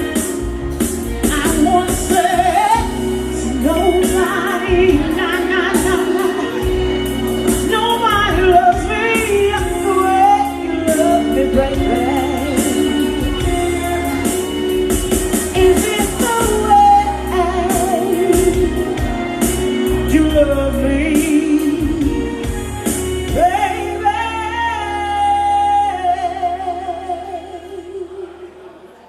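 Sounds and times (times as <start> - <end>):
bass: 0.0 - 28.2
woman singing: 0.0 - 28.9.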